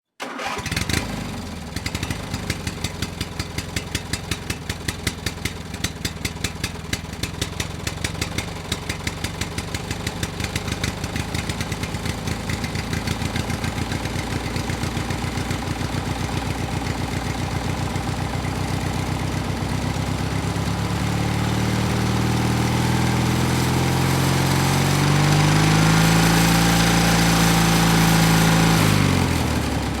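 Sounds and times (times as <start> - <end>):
two-stroke engine revving: 0.2 - 30.0.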